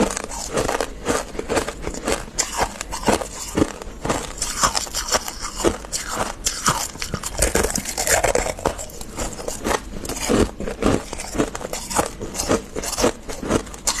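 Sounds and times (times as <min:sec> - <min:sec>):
frost crunching while chewed: 0:00.0 - 0:14.0.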